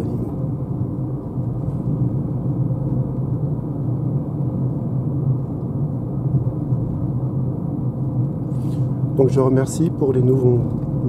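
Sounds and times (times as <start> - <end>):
road and tyre rumble in car cabin: 0.0 - 11.0.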